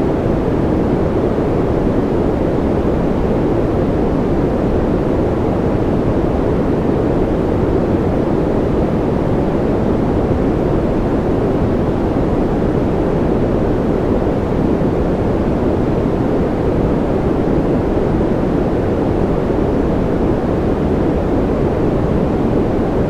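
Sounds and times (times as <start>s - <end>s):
deep dull white noise: 0.0s - 23.0s.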